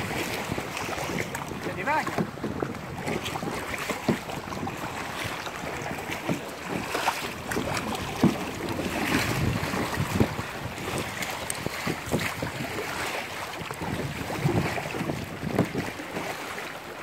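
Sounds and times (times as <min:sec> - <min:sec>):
wind buffeting microphone: 0:00.0 - 0:16.5
paddle strokes splashing: 0:00.0 - 0:17.0
water slapping kayak: 0:00.0 - 0:17.0.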